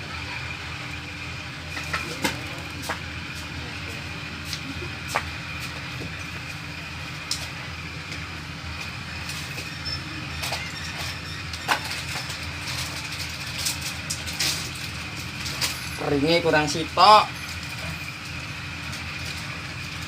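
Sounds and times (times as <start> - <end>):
low mechanical hum with whine: 0.0 - 20.0.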